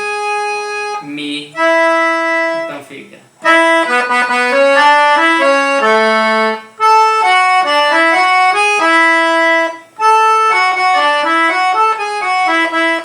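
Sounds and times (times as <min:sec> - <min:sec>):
reedy instrument melody: 0:00.0 - 0:13.0.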